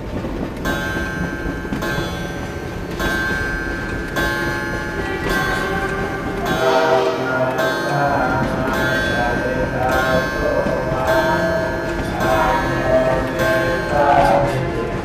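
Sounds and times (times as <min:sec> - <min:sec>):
bell-like ringing tone: 0:00.7 - 0:15.0.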